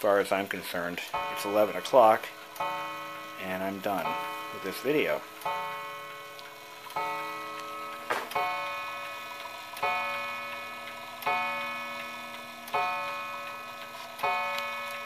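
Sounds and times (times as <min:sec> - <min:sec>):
mantel clock striking: 0:00.0 - 0:15.0.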